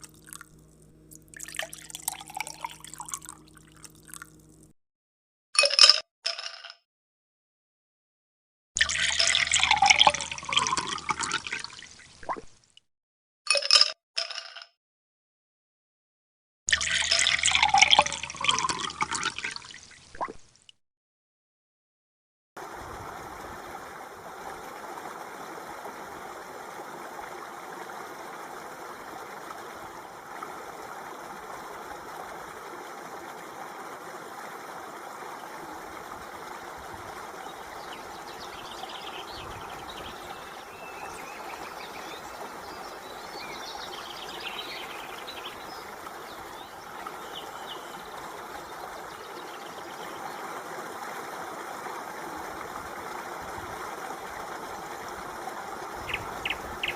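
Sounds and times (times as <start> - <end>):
water flowing: 0.0 - 4.7, 8.8 - 12.6, 16.7 - 20.6, 22.6 - 56.9.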